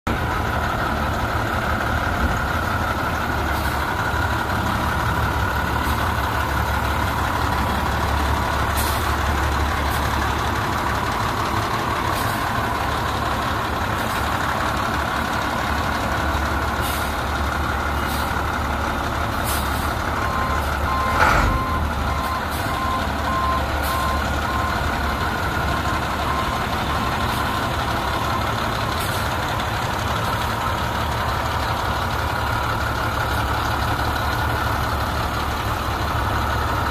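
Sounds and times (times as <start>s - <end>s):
diesel truck idling: 0.1s - 36.9s.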